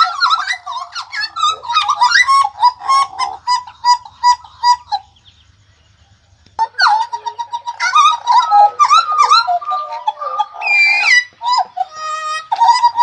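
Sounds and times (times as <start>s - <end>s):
birds whistling and chirping: 0.0s - 13.0s.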